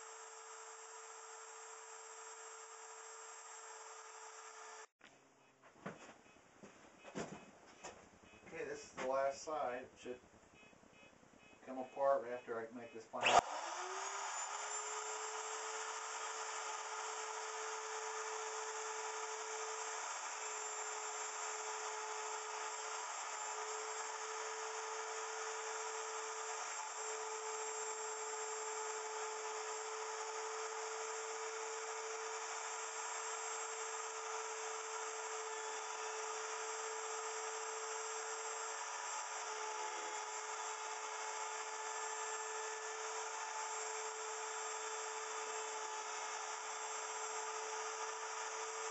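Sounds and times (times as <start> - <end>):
router cutting wood: 0.0 - 4.9, 13.2 - 48.9.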